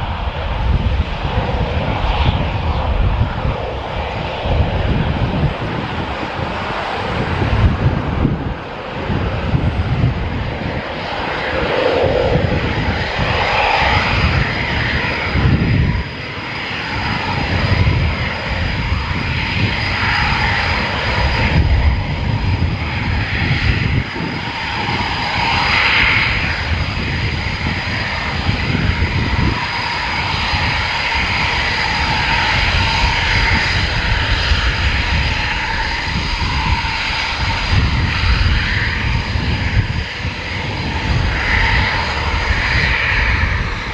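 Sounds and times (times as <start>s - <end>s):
faint engine whine: 0.0s - 43.9s
fighter jet engines roaring: 0.0s - 43.9s.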